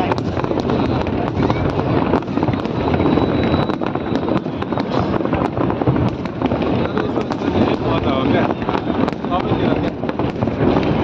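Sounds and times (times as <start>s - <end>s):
fireworks booming: 0.0s - 11.0s
sharp fireworks cracks: 0.0s - 11.0s.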